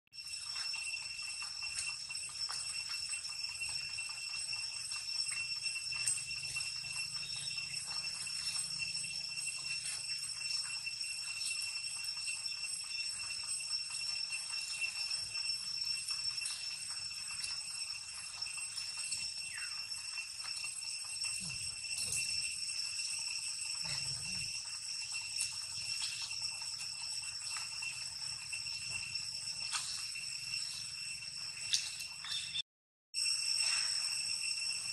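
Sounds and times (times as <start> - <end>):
insects trilling: 0.2 - 32.6, 33.2 - 34.9
monkeys clicking and rustling: 0.2 - 32.6.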